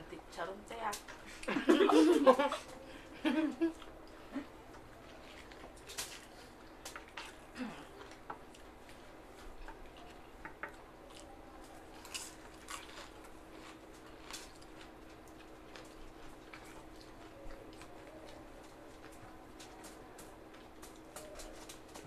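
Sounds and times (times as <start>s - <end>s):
faint steady hum: 0.0s - 22.0s
people chewing and smacking: 0.7s - 22.0s.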